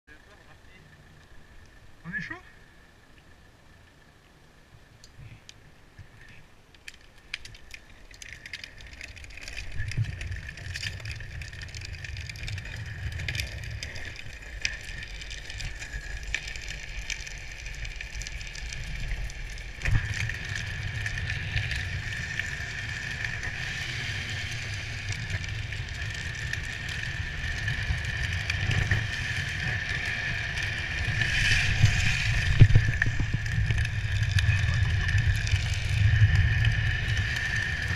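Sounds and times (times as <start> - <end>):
plastic wheels scraping on asphalt: 6.1 - 37.9
low rumble: 7.5 - 37.9.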